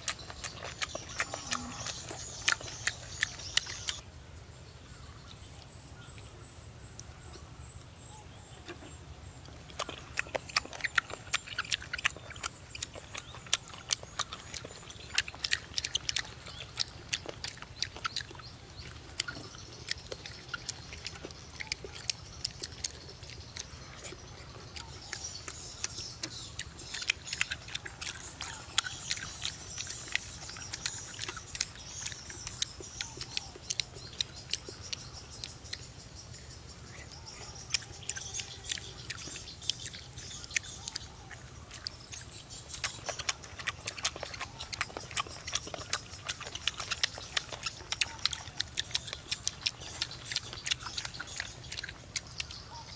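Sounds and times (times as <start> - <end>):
meat torn and chewed: 0.0 - 4.0, 9.5 - 36.0, 36.9 - 52.9.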